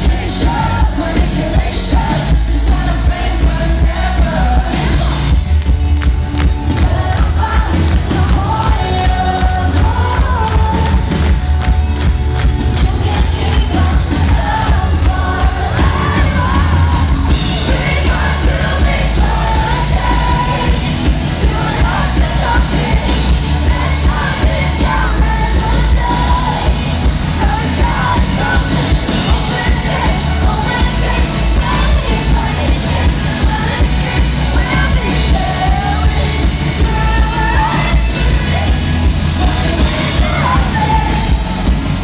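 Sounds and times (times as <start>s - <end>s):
woman singing: 0.0s - 5.5s, 6.4s - 11.4s, 12.7s - 42.0s
live pop-rock band: 0.0s - 42.0s.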